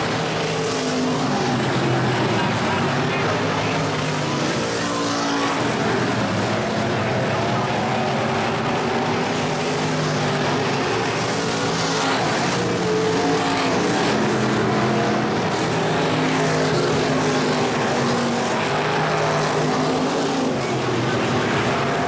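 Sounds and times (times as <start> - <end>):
race car engines at full throttle: 0.0 - 22.0.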